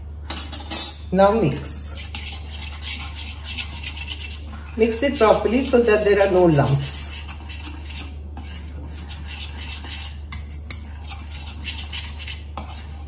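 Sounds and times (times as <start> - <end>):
metal utensil scraping a steel bowl: 0.3 - 1.1, 1.9 - 13.0.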